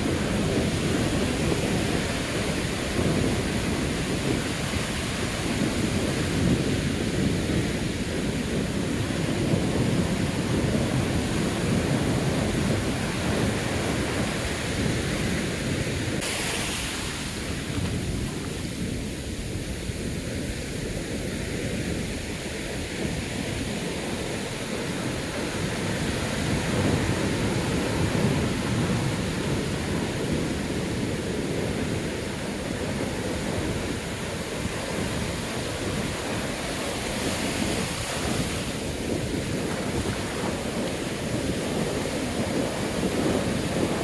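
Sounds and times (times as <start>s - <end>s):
storm surf breaking: 0.0s - 44.0s
wind buffeting microphone: 0.0s - 44.0s.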